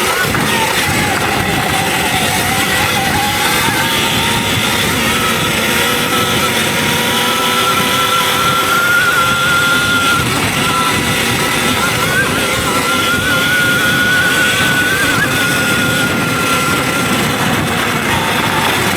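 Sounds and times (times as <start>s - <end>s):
electric motor whine: 0.0s - 18.9s
wind rushing and rumbling: 0.0s - 18.9s.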